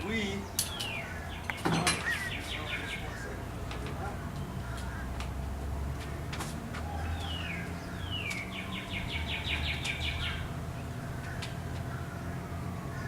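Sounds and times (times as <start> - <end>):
songbird singing: 0.0 - 13.0
steady low rumble: 2.2 - 13.0.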